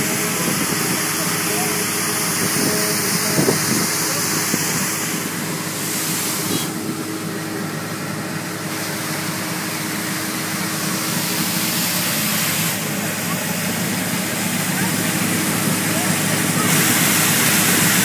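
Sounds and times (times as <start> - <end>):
street sweeper engine hum: 0.0 - 18.0
street sweeper hiss: 0.0 - 18.0.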